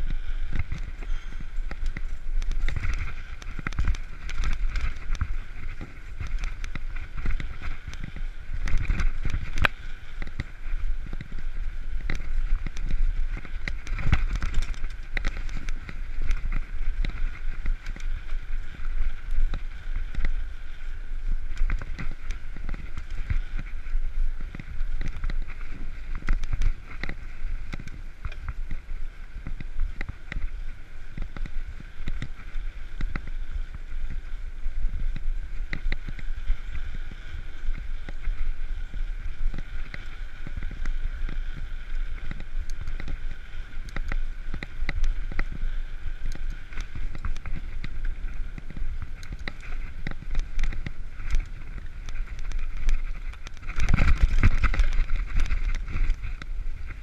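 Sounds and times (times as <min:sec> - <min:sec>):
bike rattles and knocks: 0:00.0 - 0:20.6, 0:21.2 - 0:57.0
wind noise on microphone: 0:00.0 - 0:57.0.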